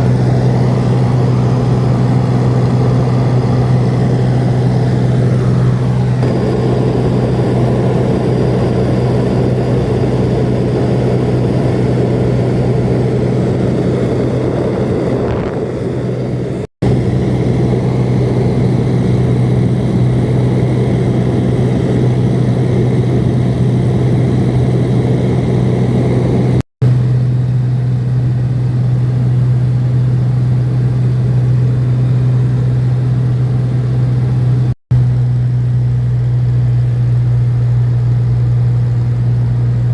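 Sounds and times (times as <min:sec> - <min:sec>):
seaplane engine and propeller drone: 0:00.0 - 0:39.9.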